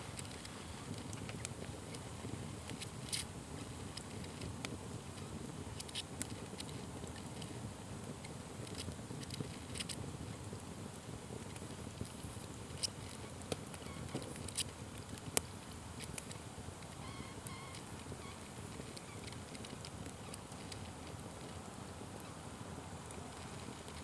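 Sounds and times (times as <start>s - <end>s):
campfire flames rushing: 0.0s - 24.0s
fire crackles and pops: 0.0s - 24.0s.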